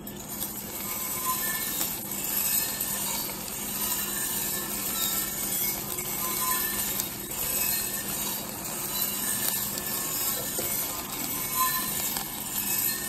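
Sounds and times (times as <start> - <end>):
coffee beans rattling in drum: 0.0 - 13.0
roaster low hum: 0.0 - 13.0.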